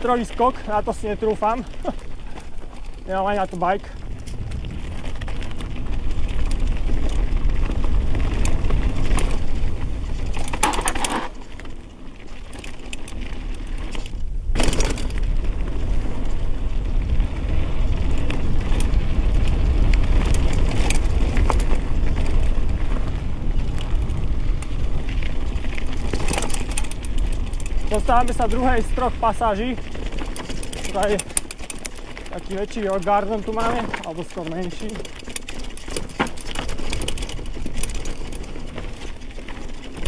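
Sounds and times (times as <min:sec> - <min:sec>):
steady low rumble: 0:00.0 - 0:10.6, 0:11.4 - 0:34.6
bike clattering and rattling: 0:00.0 - 0:40.0
bike tyres over roots and rocks: 0:00.0 - 0:40.0.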